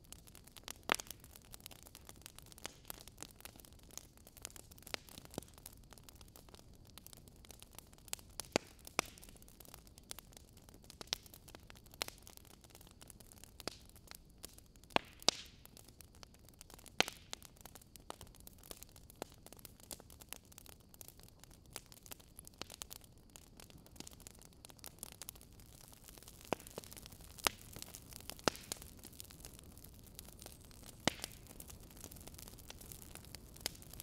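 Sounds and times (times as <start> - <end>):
faint steady hiss: 0.0 - 34.0
wood fire crackling and popping: 0.0 - 34.0.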